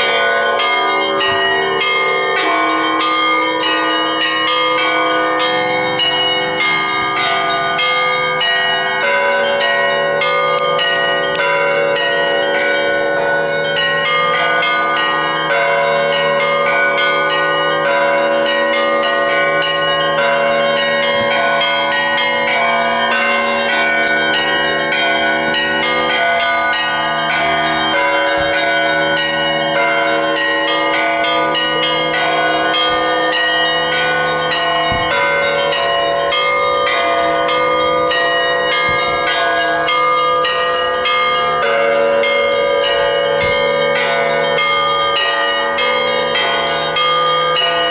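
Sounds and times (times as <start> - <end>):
large bells humming: 0.0 - 47.9
small bells struck rapidly: 0.0 - 47.9.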